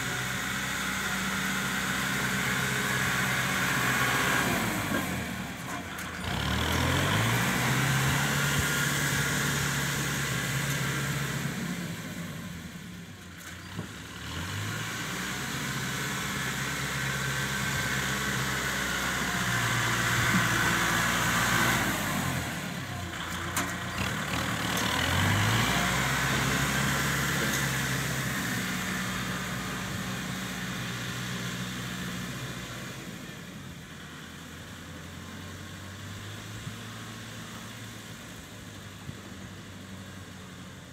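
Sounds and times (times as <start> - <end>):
tractor diesel engine revving: 0.0 - 40.9.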